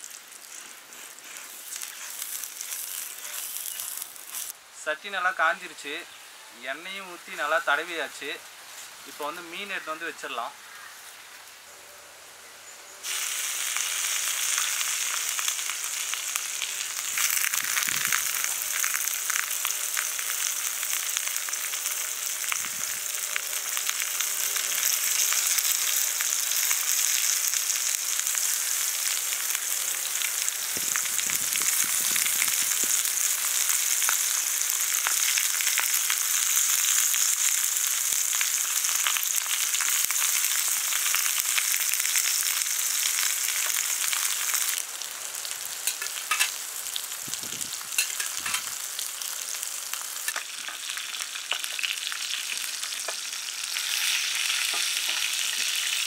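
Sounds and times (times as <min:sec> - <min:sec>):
fish sizzling in oil: 0:00.0 - 0:04.6, 0:13.0 - 0:56.0.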